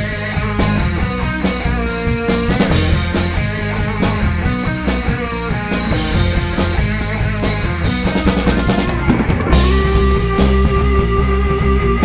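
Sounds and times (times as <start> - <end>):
bass: 0.0 - 12.0
drum kit: 0.0 - 12.0
electric guitar: 0.0 - 12.0.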